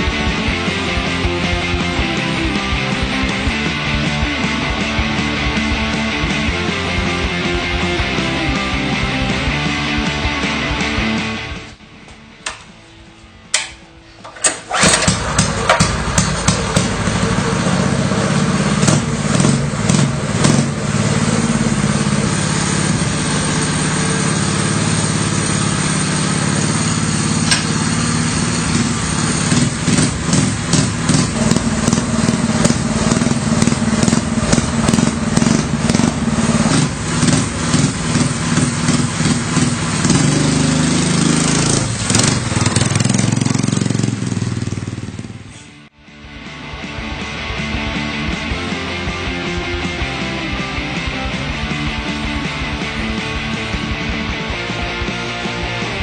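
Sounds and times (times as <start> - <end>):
motorcycle engine revving: 0.0 - 11.8, 14.2 - 46.0, 46.8 - 56.0.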